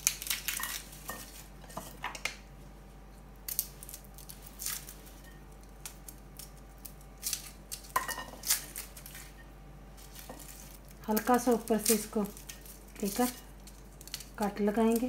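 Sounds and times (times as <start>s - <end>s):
garlic skins crackling and rustling: 0.0s - 15.0s.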